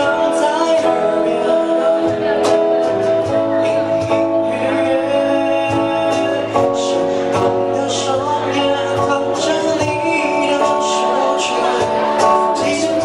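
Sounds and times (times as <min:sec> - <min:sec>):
cajon beat: 0:00.0 - 0:13.0
electric guitar chords: 0:00.0 - 0:13.0
person singing into microphone: 0:00.0 - 0:13.0.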